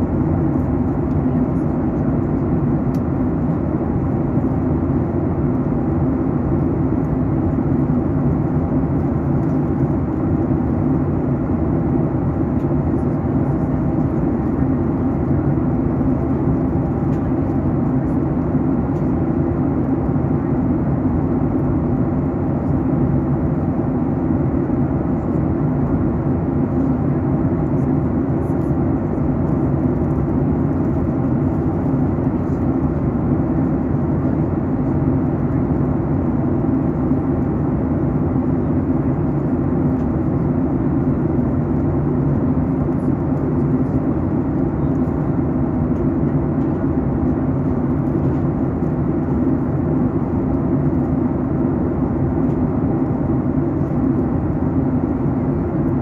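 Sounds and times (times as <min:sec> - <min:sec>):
airflow rush over cabin: 0:00.0 - 0:56.0
jet engines droning: 0:00.0 - 0:56.0.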